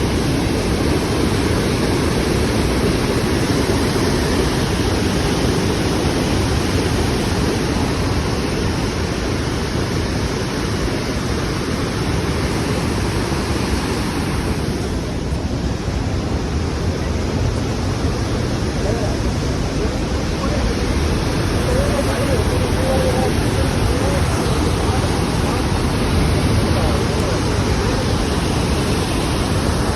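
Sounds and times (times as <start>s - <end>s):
water rushing through a dam: 0.0s - 29.9s.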